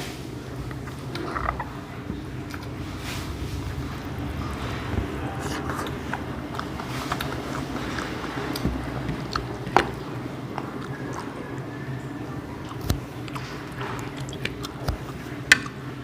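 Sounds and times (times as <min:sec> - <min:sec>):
chewing and smacking: 0:00.0 - 0:16.0
steady low hum: 0:00.0 - 0:16.0.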